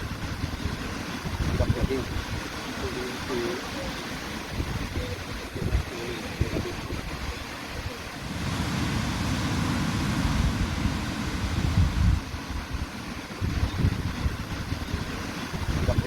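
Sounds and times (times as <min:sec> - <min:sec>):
ocean surf on a beach: 0:00.0 - 0:16.0
wind buffeting microphone: 0:00.0 - 0:16.0.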